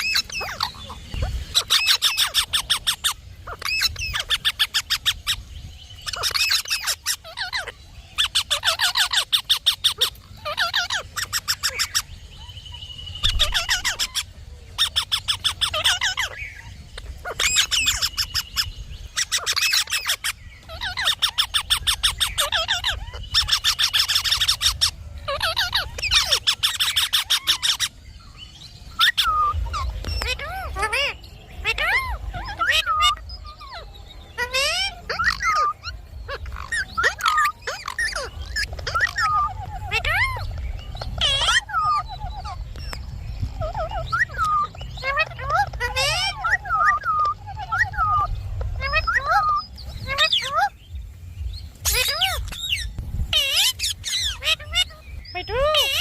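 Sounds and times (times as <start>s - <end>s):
parrot shrill screeches: 1.5s - 5.4s, 6.0s - 12.1s, 13.2s - 16.4s, 17.0s - 27.9s, 29.0s - 33.8s, 34.4s - 40.4s, 41.0s - 42.6s, 43.5s - 50.7s, 51.8s - 55.0s.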